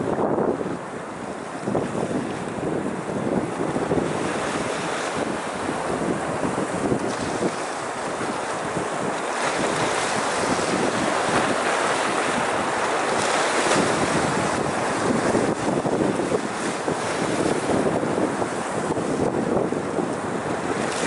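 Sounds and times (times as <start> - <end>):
waves breaking over rocks: 0.0 - 21.0
wind buffeting microphone: 0.0 - 21.0.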